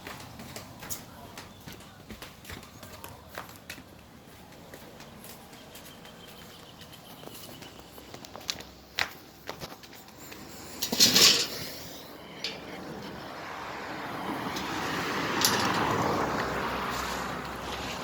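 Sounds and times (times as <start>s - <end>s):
vehicle passing on road: 0.0s - 18.0s.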